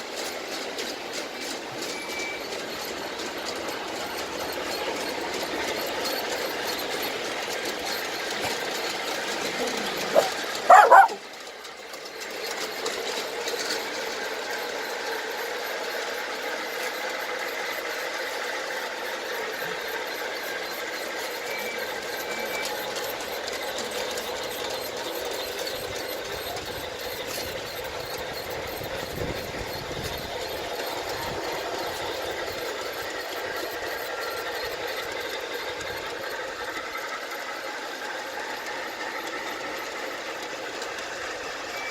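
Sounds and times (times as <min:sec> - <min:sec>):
model locomotive running sound: 0:00.0 - 0:41.9.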